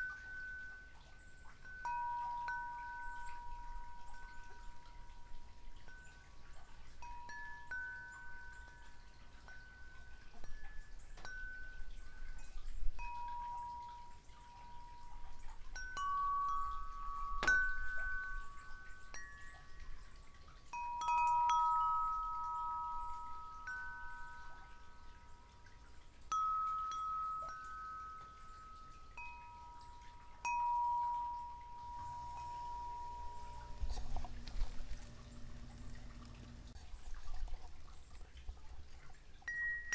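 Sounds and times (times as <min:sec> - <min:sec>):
wind chimes ringing: 0:00.0 - 0:37.5, 0:39.4 - 0:39.9.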